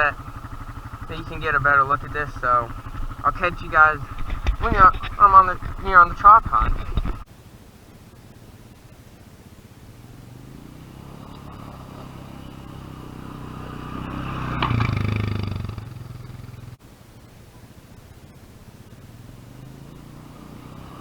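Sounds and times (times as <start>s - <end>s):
atv engine passing: 0.0s - 21.0s.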